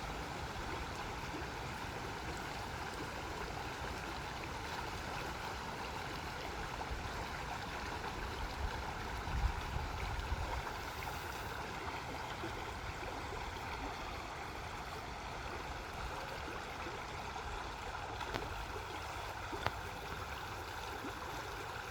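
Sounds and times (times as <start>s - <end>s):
small waterfall splashing: 0.0s - 21.9s.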